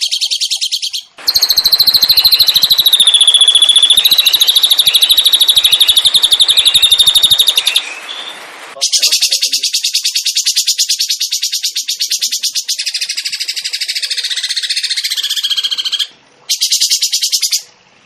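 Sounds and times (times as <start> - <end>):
songbird rapid trill: 0.0 - 17.7.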